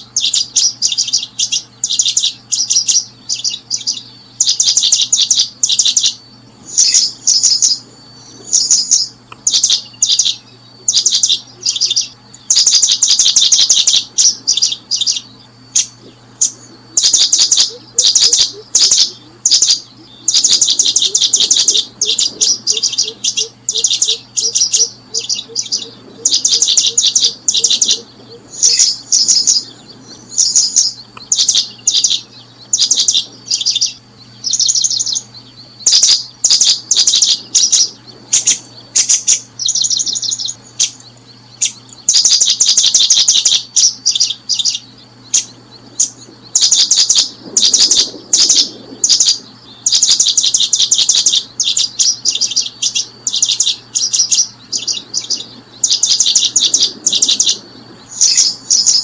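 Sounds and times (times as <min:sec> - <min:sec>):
birds chirping: 0:00.0 - 0:59.0
faint steady hum: 0:00.0 - 0:59.0.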